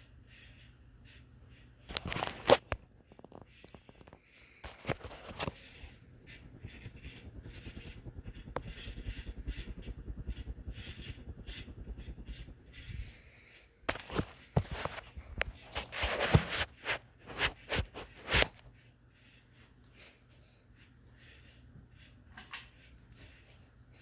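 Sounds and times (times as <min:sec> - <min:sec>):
ceiling fan squeaking bearings: 0:00.0 - 0:24.0.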